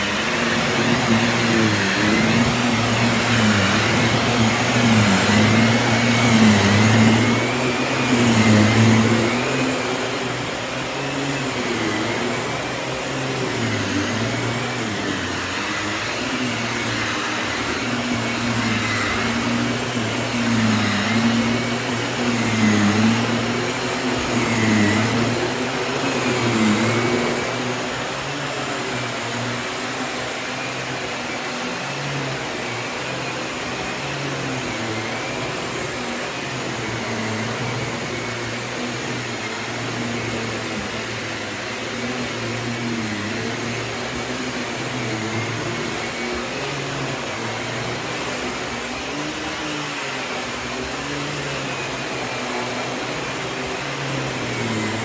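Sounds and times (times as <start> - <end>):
stick vacuum motor humming: 0.0 - 55.0.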